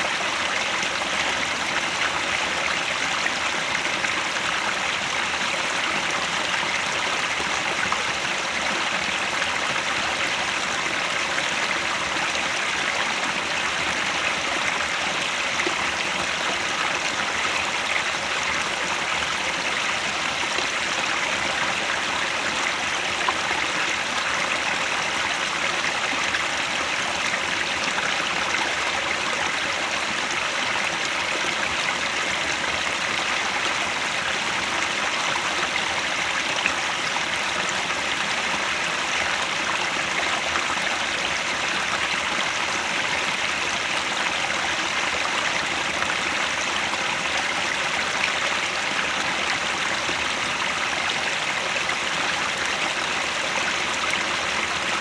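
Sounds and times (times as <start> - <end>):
mountain stream flowing: 0.0 - 55.0.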